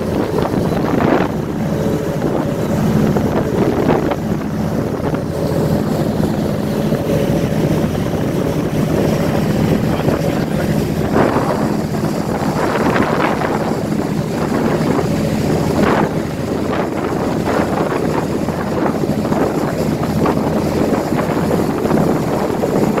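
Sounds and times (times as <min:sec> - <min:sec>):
boat engine humming: 0:00.0 - 0:23.0
water rushing: 0:00.0 - 0:23.0
wind buffeting microphone: 0:00.0 - 0:23.0.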